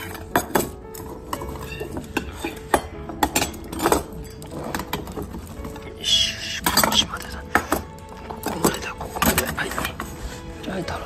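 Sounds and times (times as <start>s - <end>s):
metal bowls clinking on wooden floor: 0.0s - 5.9s, 6.6s - 10.0s.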